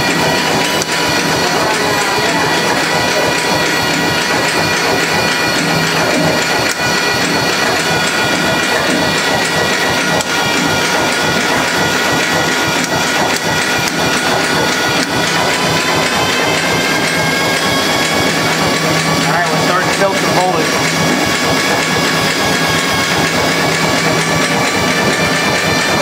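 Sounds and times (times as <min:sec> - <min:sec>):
generator engine running: 0:00.0 - 0:26.0
mechanical clatter: 0:00.0 - 0:26.0
steady multi-tone whine: 0:00.0 - 0:26.0.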